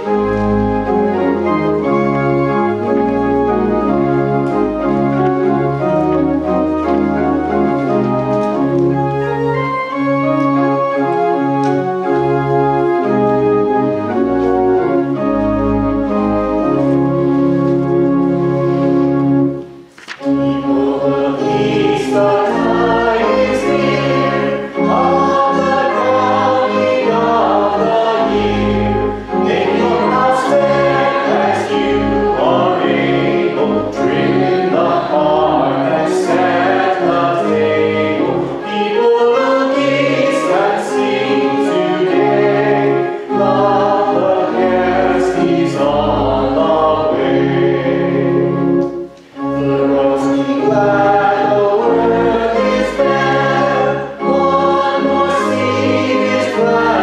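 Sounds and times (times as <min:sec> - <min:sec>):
congregation singing a hymn: 0:00.0 - 0:57.0
instrumental accompaniment: 0:00.0 - 0:57.0.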